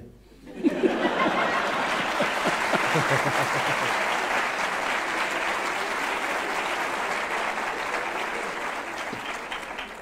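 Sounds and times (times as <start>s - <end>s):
audience applauding: 0.9s - 10.0s.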